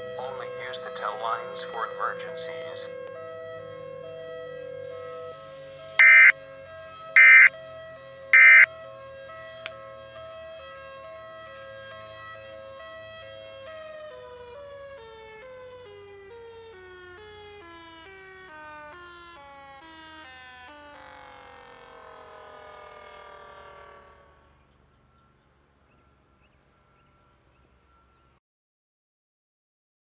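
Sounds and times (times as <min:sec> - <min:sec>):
two-tone siren: 0:00.0 - 0:28.4.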